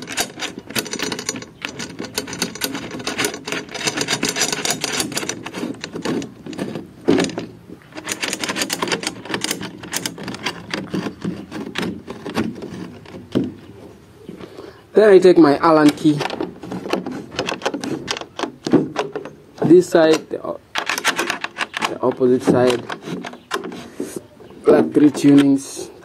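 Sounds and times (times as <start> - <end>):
drum tension rods clicking: 0.0 - 13.6, 15.6 - 23.9.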